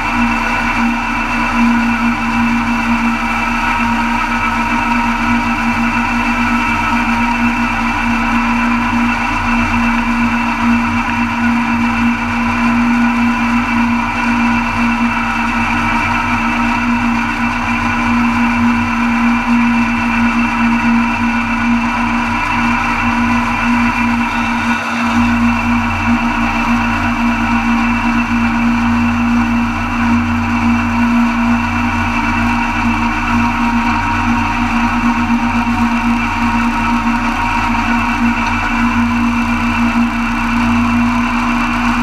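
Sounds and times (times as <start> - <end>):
tractor engine running under load: 0.0 - 42.0.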